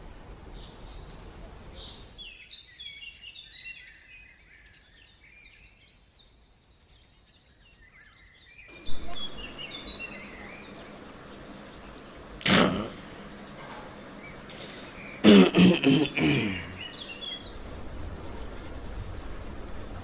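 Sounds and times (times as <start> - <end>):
birds chirping: 0.6 - 20.0.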